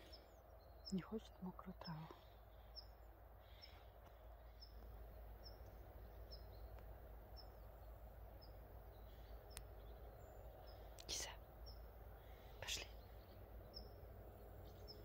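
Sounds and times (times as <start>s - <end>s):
small bird calling: 0.0s - 15.0s.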